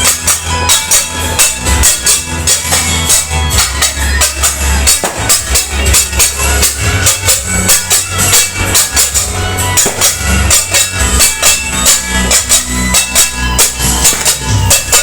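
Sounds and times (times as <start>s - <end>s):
heavy bass: 0.0s - 15.0s
loud music with jingling beat: 0.0s - 15.0s.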